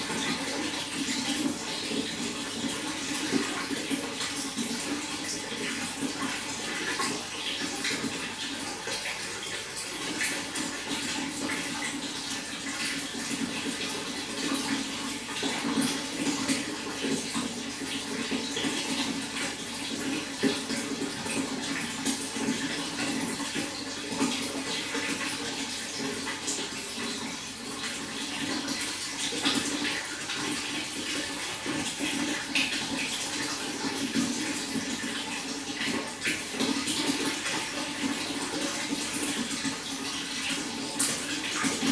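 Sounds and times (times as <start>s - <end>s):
running water gurgling: 0.0s - 41.9s.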